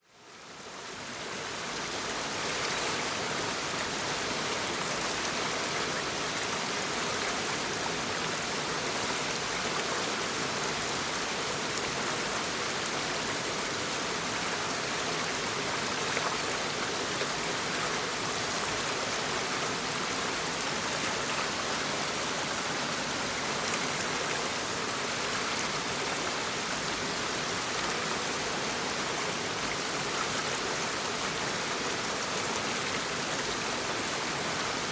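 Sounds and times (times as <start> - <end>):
shallow brook water flowing: 0.0 - 34.9.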